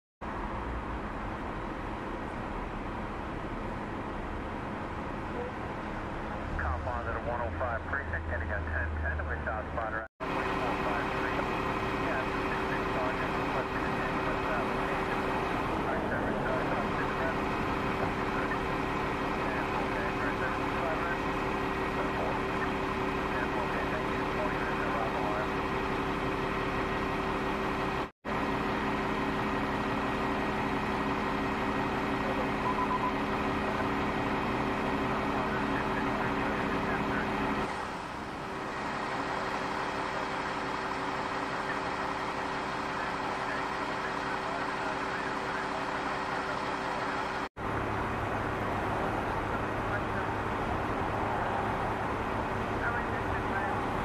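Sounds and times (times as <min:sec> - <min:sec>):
street traffic noise: 0:00.2 - 0:54.0
truck engine idling: 0:01.0 - 0:54.0.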